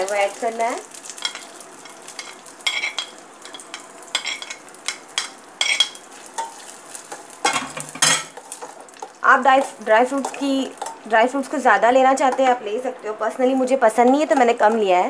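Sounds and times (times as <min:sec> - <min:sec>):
fruit sizzling in ghee: 0:00.0 - 0:15.0.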